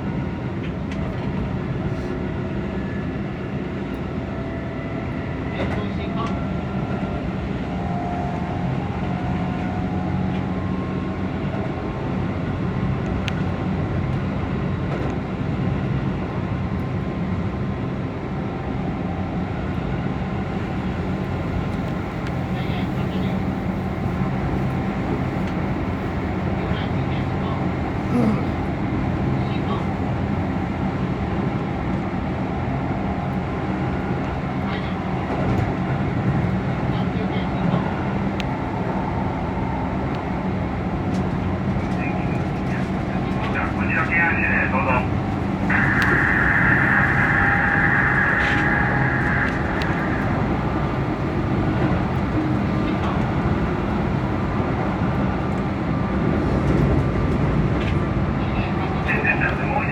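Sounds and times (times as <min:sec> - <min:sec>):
train wheels rumbling on rails: 0:00.0 - 0:59.8
faint train whine: 0:00.0 - 0:59.9.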